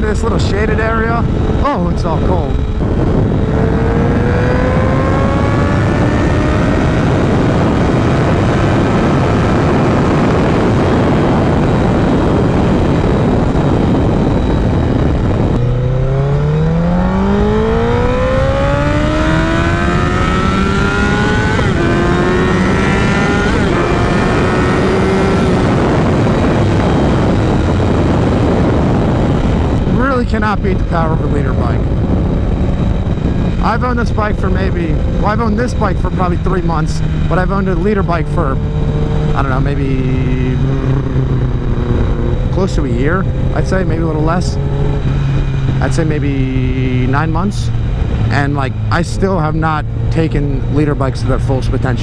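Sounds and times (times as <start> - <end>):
motorcycle engine revving: 0.0 - 52.0
quick gear upshifts: 0.0 - 52.0
wind rush: 0.0 - 52.0.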